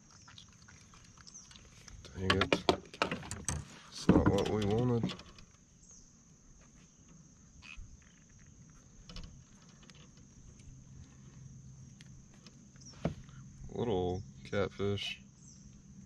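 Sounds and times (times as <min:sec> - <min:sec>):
insect chirring: 0:00.0 - 0:03.6, 0:04.2 - 0:16.0.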